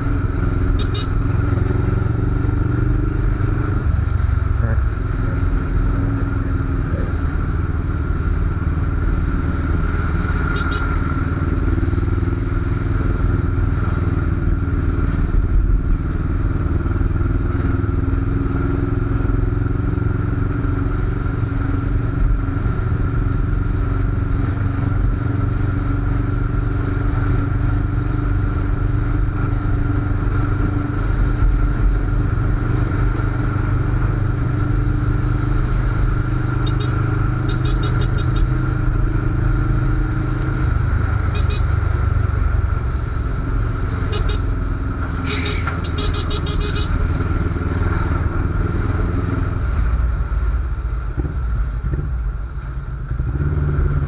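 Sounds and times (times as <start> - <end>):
motorcycle engine cruising: 0.0 - 54.0
wind and tyres on wet road: 0.0 - 54.0.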